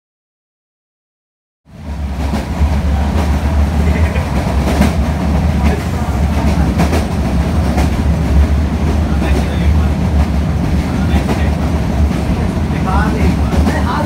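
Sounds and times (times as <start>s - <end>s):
train rumble inside coach: 1.7s - 14.0s
wheels clacking over rail joints: 1.9s - 14.0s.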